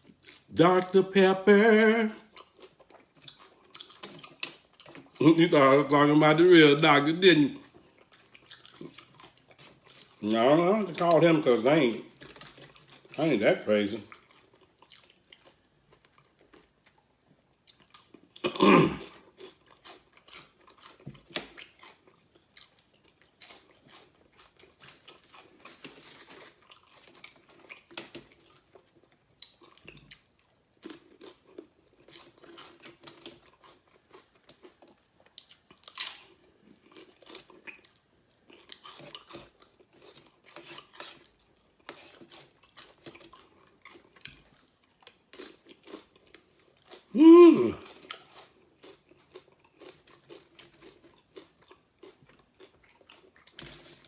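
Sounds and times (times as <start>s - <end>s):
tortilla chips crunching: 0.0s - 54.0s.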